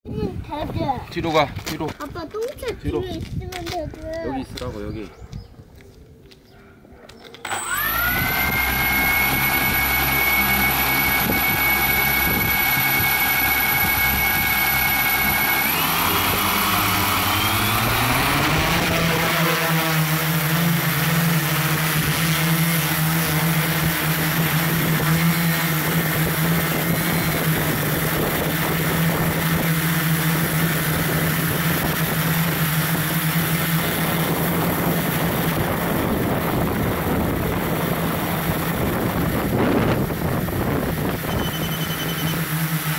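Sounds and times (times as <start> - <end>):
drone propellers whining: 7.4 - 42.9.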